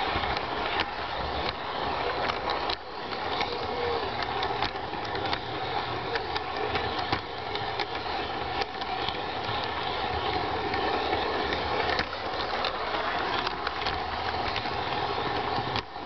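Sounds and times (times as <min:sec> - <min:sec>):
electric motor and gears whirring: 0:00.0 - 0:16.0
wheels clicking over rail joints: 0:00.0 - 0:16.0.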